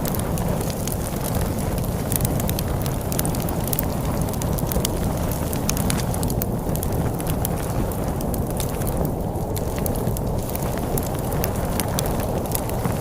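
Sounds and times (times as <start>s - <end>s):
log fire crackling and popping: 0.0s - 13.0s
storm wind rumble: 0.0s - 13.0s.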